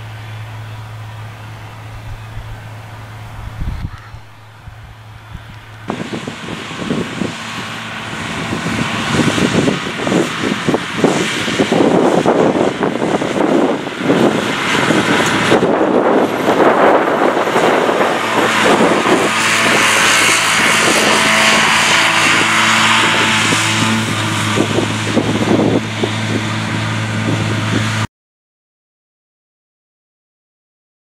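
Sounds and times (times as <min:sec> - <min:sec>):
disc mower cutting grass: 0:00.0 - 0:28.1
tractor diesel engine running: 0:00.0 - 0:28.1.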